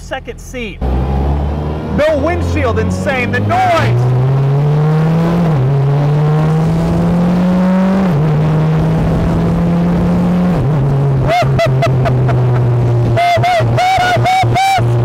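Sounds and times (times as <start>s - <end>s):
car engine revving: 0.8s - 15.0s.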